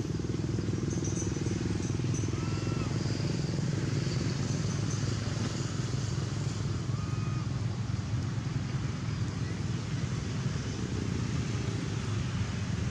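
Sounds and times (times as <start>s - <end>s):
vehicle engine drone: 0.0s - 12.9s.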